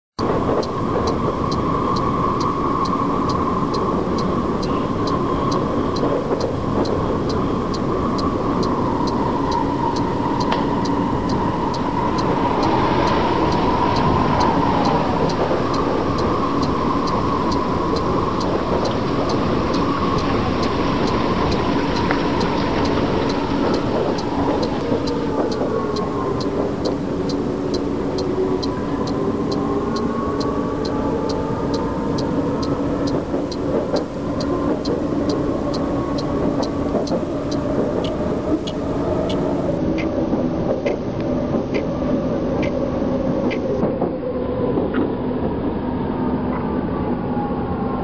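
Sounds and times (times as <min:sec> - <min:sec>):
sharp regular ticking: 0:00.2 - 0:39.5
steady mechanical rumble: 0:00.2 - 0:40.2.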